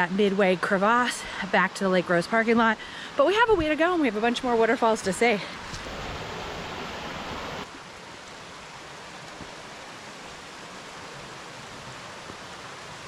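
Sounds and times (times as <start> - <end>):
water rushing over falls: 0.2 - 13.0.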